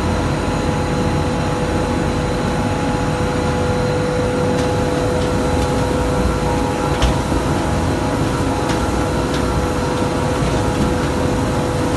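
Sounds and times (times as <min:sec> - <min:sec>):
oil pressing machinery running: 0:00.0 - 0:11.9.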